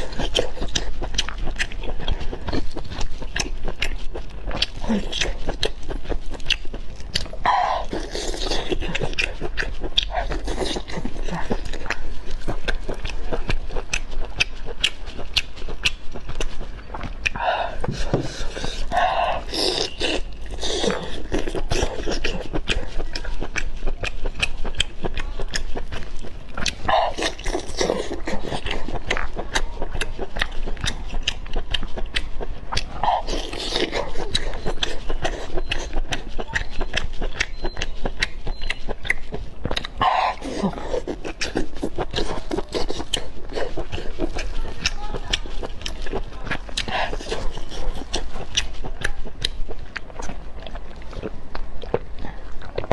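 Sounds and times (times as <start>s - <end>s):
chewing and lip-smacking: 0.0s - 52.9s.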